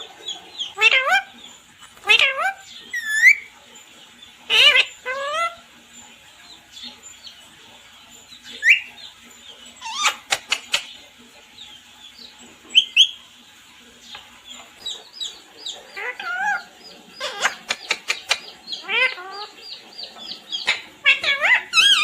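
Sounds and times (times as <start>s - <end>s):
parrot calling and chirping: 0.0s - 11.0s, 11.6s - 13.3s, 14.0s - 22.0s.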